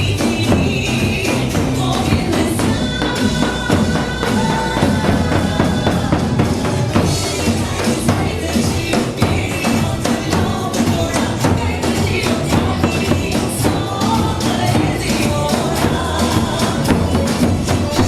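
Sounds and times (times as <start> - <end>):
person singing: 0.0 - 18.0
upbeat music with drums: 0.0 - 18.0.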